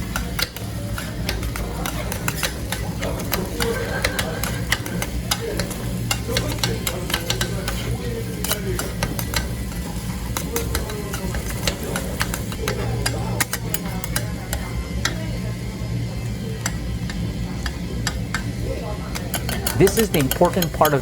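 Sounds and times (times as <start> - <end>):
metal spatulas tapping on griddle: 0.0 - 15.4, 16.6 - 21.0
light sizzle: 0.0 - 21.0.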